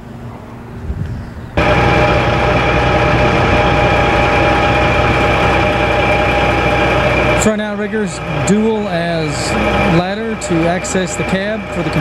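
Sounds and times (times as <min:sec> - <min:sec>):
steady whine: 0:01.5 - 0:12.0
diesel engine running: 0:01.6 - 0:12.0.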